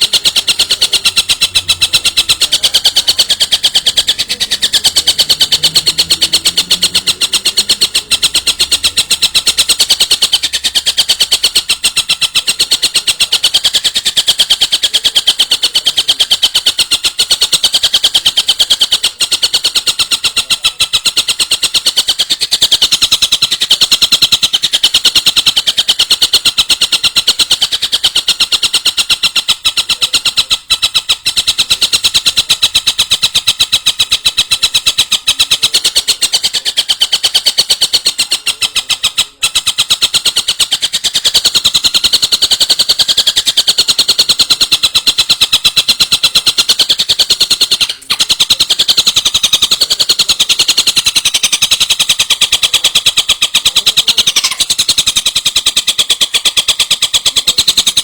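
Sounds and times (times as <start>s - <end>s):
bird rattling trill: 0.0s - 58.0s.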